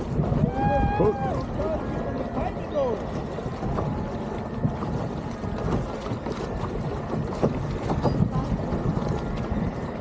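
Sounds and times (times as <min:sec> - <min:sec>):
water splashing around boat: 0:00.0 - 0:10.0
wind buffeting microphone: 0:00.0 - 0:10.0.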